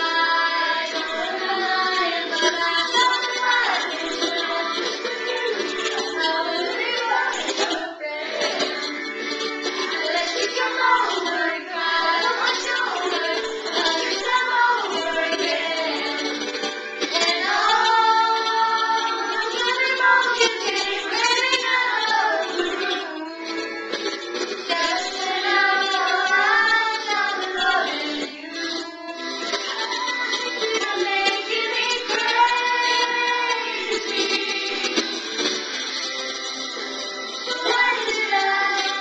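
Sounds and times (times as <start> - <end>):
girls singing together: 0.0 - 35.5, 37.4 - 39.0
background music: 0.0 - 39.0.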